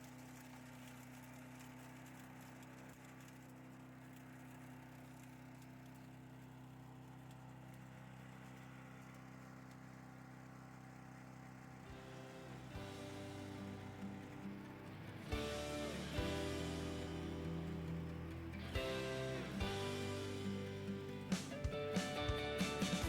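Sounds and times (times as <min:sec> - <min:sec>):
small petrol engine humming: 0:00.0 - 0:23.0.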